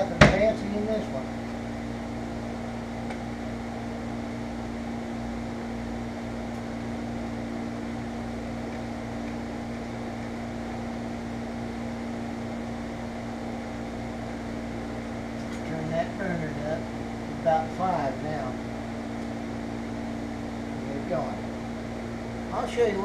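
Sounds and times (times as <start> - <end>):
range hood fan humming: 0.0 - 23.0.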